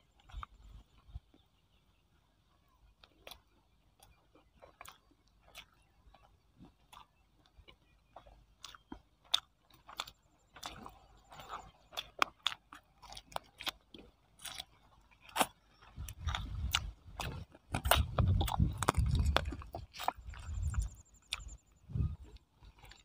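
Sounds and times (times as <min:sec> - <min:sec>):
chewing and mouth smacks: 0:00.0 - 0:01.7, 0:02.9 - 0:23.0.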